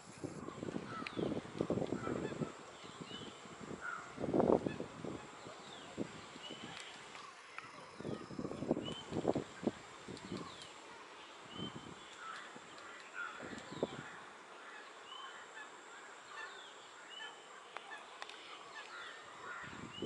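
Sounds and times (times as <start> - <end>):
wild birds calling: 0.4 - 20.0.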